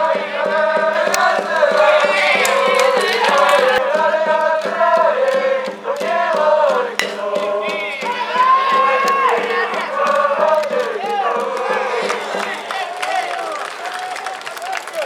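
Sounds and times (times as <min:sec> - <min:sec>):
crowd singing and chanting: 0:00.0 - 0:14.2.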